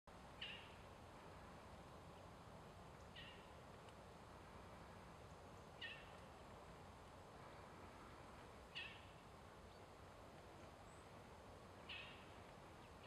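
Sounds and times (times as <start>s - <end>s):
faint background hiss: 0.1s - 13.0s.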